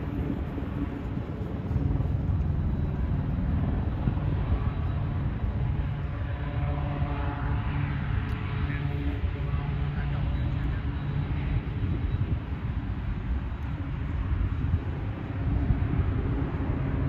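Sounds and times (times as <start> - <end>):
distant engine droning: 0.0 - 17.0.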